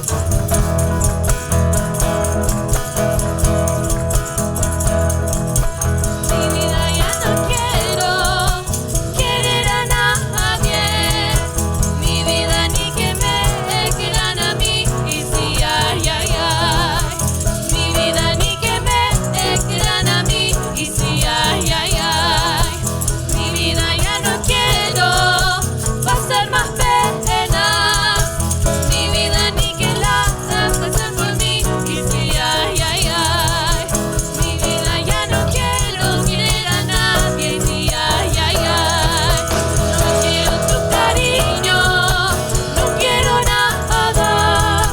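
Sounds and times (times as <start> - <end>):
percussion beat: 0.0 - 44.9
person singing: 6.2 - 44.9.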